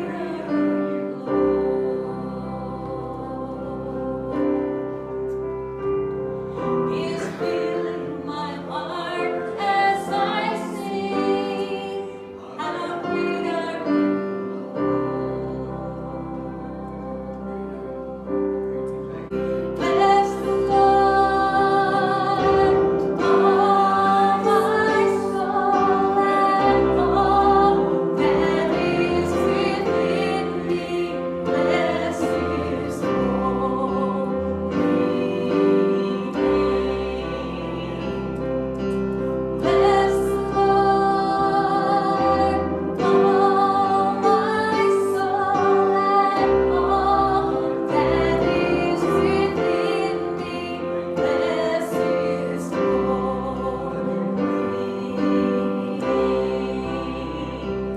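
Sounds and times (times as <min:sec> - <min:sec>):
piano accompaniment: 0:00.0 - 0:57.9.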